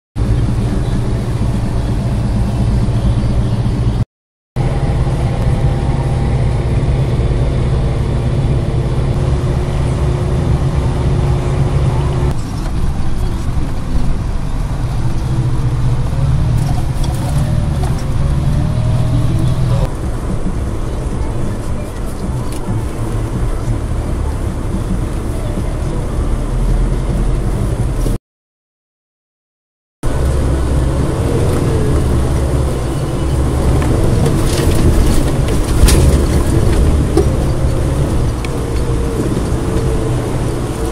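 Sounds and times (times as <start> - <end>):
car engine and tyre drone: 0.2 - 4.0, 4.6 - 28.2, 30.0 - 40.9.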